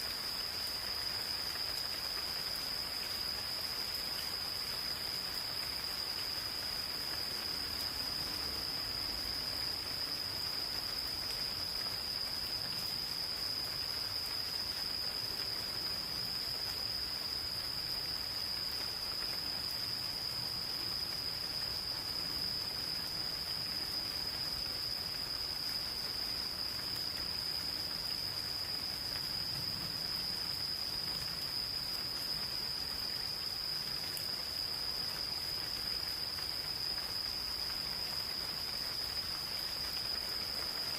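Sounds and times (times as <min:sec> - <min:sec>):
insects trilling: 0:00.0 - 0:40.9
light rain hiss: 0:00.0 - 0:40.9.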